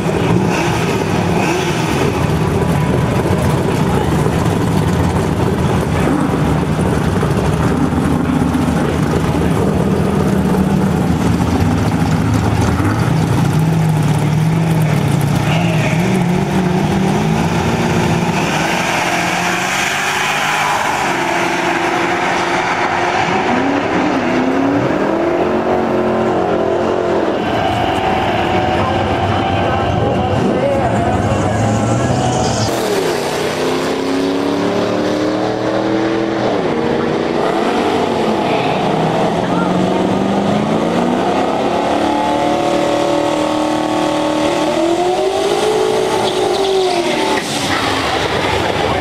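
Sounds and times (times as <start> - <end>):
car engines accelerating: 0.0 - 49.0.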